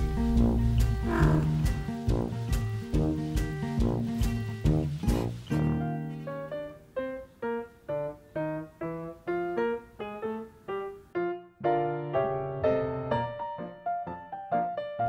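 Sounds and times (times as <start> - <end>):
piano-like keyboard notes: 0.0 - 3.6, 4.2 - 15.0.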